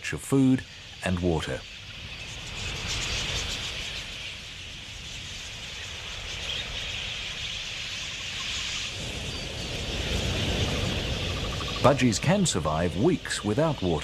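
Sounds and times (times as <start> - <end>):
budgerigars chattering: 0.3 - 14.0.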